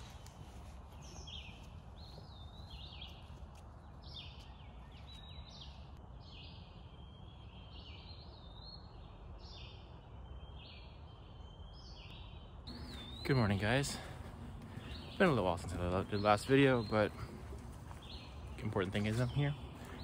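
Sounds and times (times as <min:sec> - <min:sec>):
songbirds whistling: 0:04.0 - 0:20.0.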